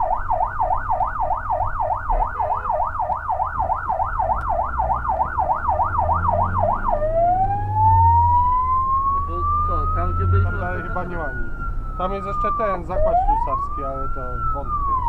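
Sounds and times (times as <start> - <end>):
fire engine siren: 0.0 - 15.0
truck engine drone: 0.0 - 15.0.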